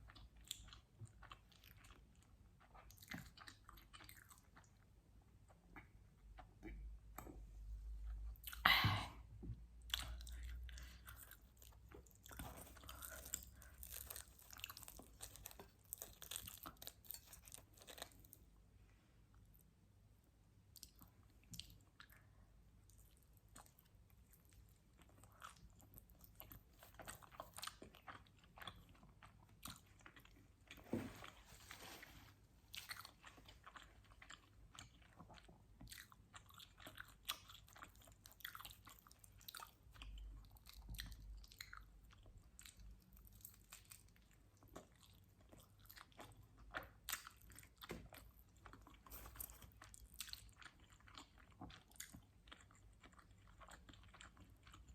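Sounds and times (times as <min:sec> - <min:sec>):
chewing and biting pizza: 0:00.0 - 0:06.6, 0:09.9 - 0:18.5, 0:20.7 - 0:31.8, 0:32.7 - 0:54.9.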